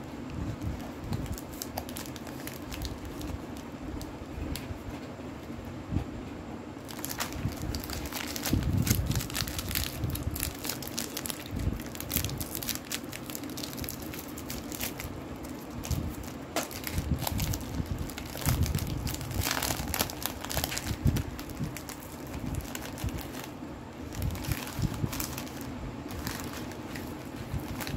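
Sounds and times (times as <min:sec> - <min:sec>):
foil wrapper crinkling: 0:00.5 - 0:04.7, 0:06.8 - 0:27.9.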